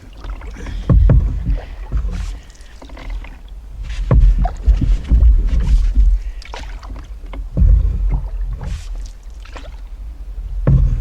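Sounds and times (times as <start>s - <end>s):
paddle strokes in water: 0.0s - 11.0s
steady low rumble: 0.0s - 11.0s.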